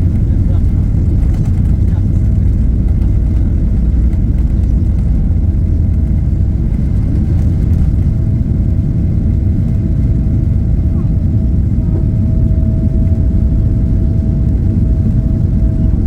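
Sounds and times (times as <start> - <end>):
airplane engine rumble: 0.0 - 16.0.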